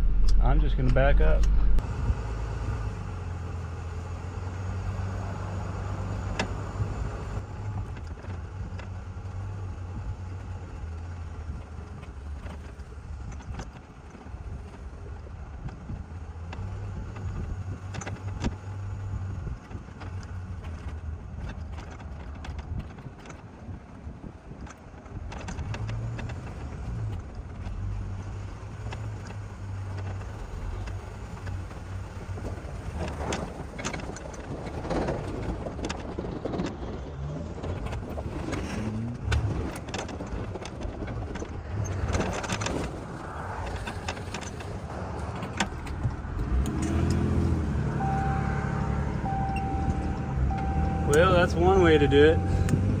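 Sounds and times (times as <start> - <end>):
truck engine at low speed: 0.0 - 53.0.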